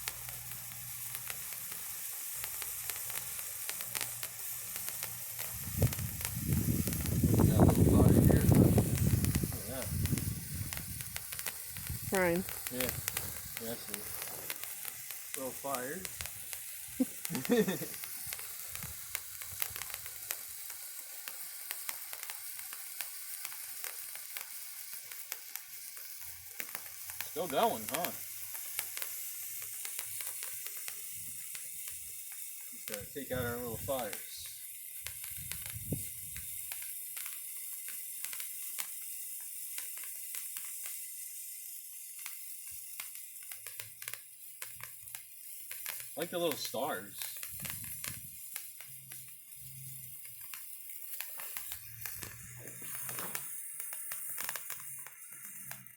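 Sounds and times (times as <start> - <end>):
sharp crackling ticks: 0.0 - 55.9
sparkler hissing: 0.0 - 55.9.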